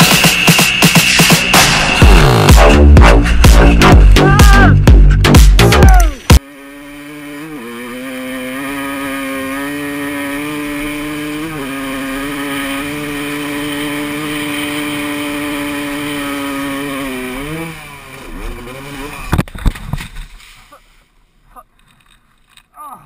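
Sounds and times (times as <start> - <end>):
dirt bike engine revving: 0.0 - 20.4.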